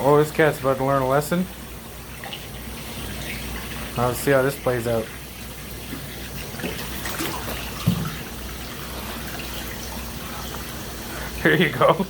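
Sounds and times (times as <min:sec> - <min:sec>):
water pouring into aquarium: 0:00.1 - 0:11.8.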